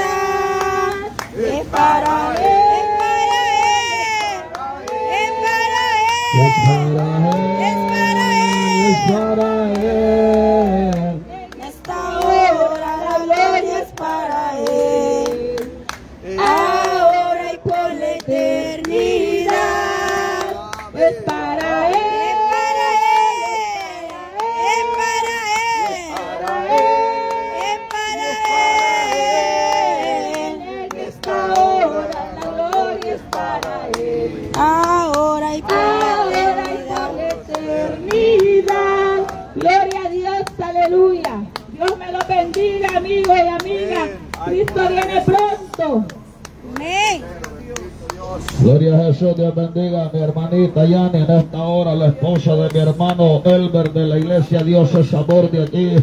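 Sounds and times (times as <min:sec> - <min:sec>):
woman singing a hymn: 0:00.0 - 0:46.1
handclaps: 0:00.5 - 0:17.1, 0:18.1 - 0:22.6, 0:23.7 - 0:48.7, 0:52.2 - 0:56.0.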